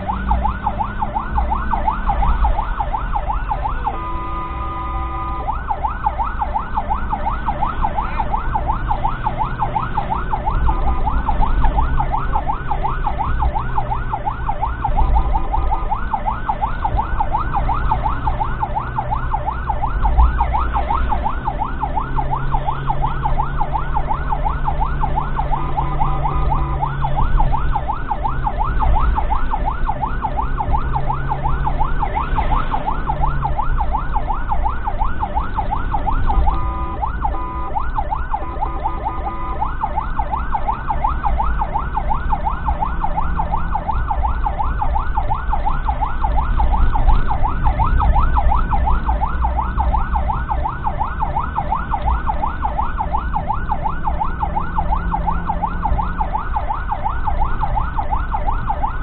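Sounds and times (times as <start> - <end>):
ambulance siren yelping: 0.0 - 59.0
engine and road rumble: 0.0 - 59.0.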